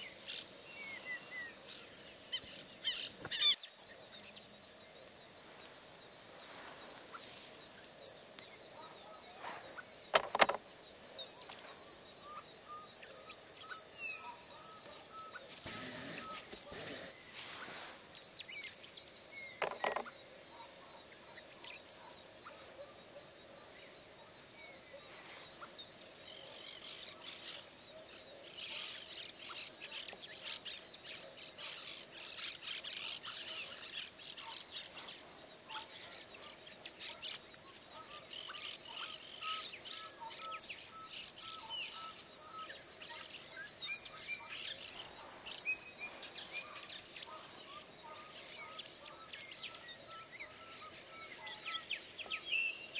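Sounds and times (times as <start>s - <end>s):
wild birds calling and chirping: 0.0s - 52.9s.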